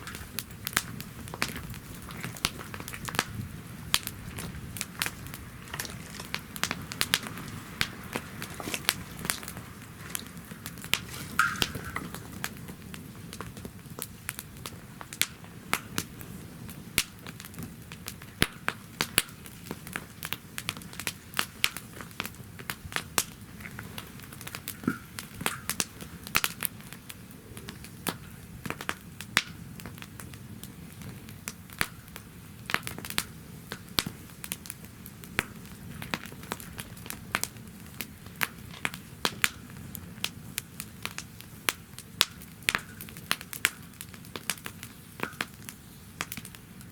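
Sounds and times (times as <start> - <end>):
campfire flame rumble: 0.0 - 46.9
fire crackles and pops: 0.0 - 46.9.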